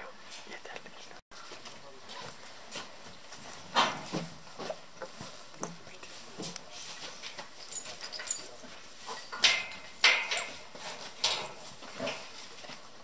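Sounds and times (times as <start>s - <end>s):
cattle knocks and shuffles: 1.3s - 13.0s.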